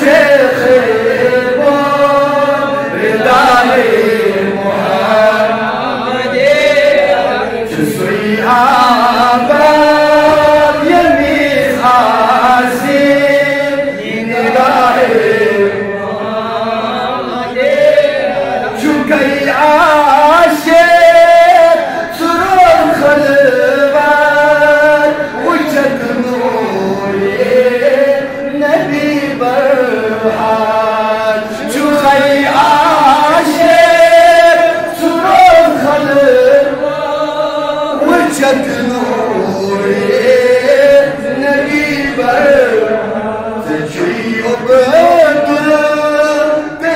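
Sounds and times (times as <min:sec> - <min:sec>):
man chanting: 0:00.0 - 0:46.9.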